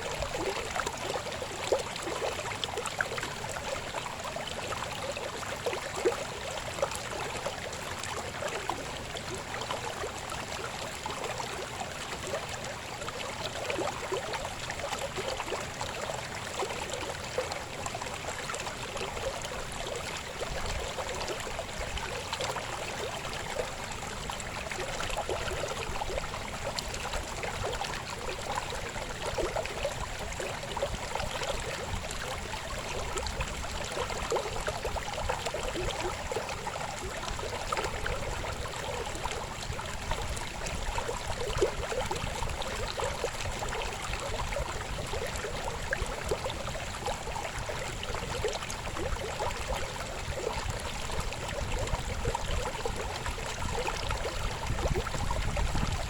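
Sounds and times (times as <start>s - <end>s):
babbling river flowing: 0.0s - 56.0s.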